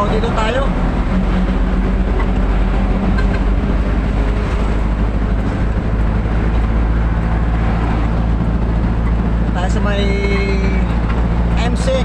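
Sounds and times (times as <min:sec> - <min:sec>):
road noise: 0:00.0 - 0:12.0
truck engine driving: 0:00.0 - 0:12.0.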